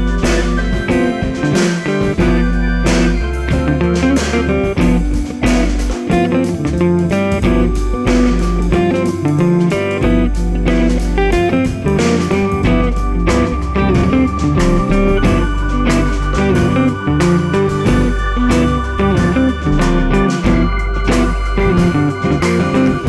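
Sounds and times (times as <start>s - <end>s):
bass and drum beat: 0.0s - 23.0s
bluesy electric guitar: 0.0s - 23.0s.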